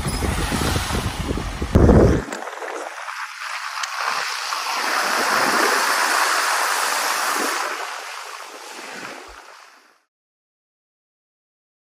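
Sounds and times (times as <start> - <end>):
water rushing hiss: 0.0 - 10.0.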